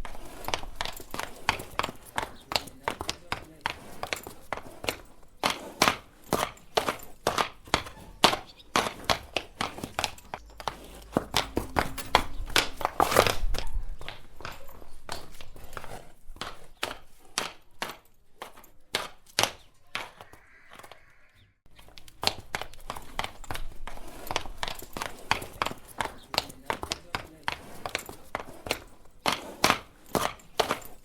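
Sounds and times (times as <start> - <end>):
horse hooves clopping: 0.0 - 31.0.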